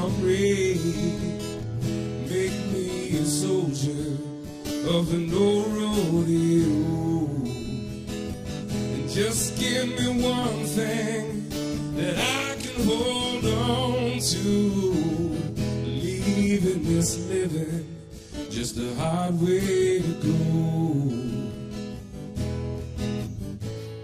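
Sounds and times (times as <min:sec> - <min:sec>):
acoustic guitar strummed and picked: 0:00.0 - 0:24.0.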